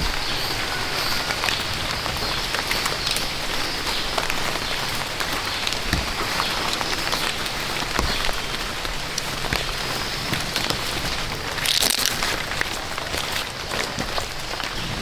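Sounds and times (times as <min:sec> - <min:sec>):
raindrop ticks: 0:00.1 - 0:15.0.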